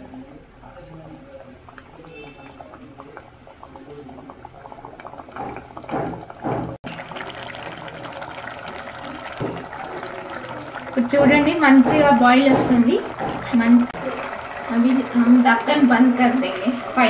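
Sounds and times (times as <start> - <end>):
thick gravy bubbling and popping: 0.1 - 17.0.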